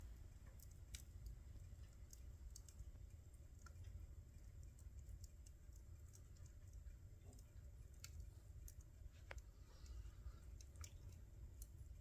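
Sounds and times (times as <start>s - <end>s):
low steady rumble: 0.0s - 12.0s
wood fire crackling: 0.0s - 12.0s.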